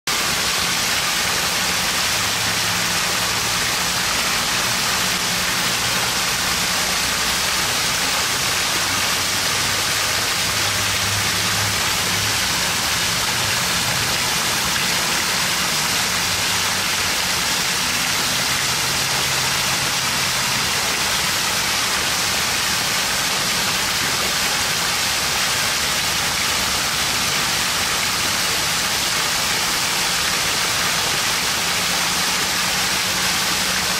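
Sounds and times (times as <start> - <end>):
water pouring and splashing: 0.1 - 33.9.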